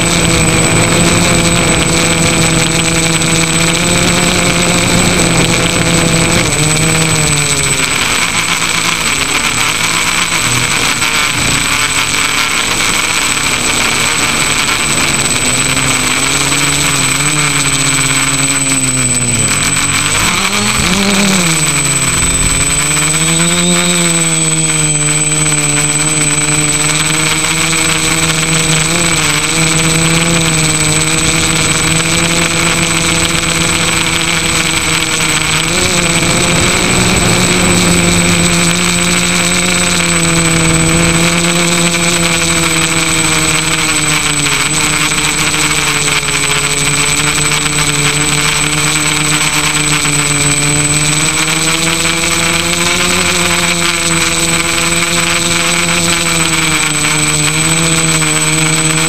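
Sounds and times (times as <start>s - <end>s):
drone propellers buzzing: 0.0s - 59.0s.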